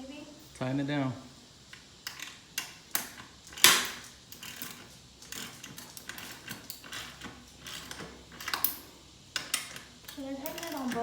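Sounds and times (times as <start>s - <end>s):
tool clicking and scraping metal: 2.0s - 11.0s.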